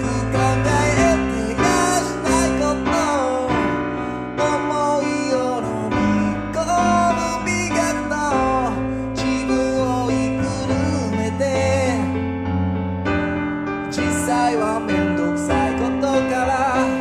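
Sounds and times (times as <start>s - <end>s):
person singing: 0.0s - 12.3s, 13.8s - 17.0s
piano chords: 0.0s - 17.0s.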